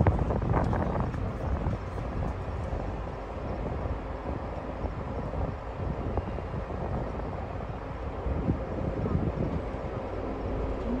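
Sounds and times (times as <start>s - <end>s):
wind noise: 0.0s - 11.0s.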